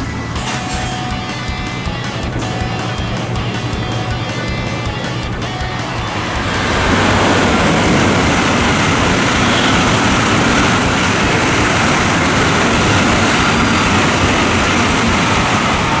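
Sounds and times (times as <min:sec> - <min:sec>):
moving train rumbling: 0:00.0 - 0:16.0.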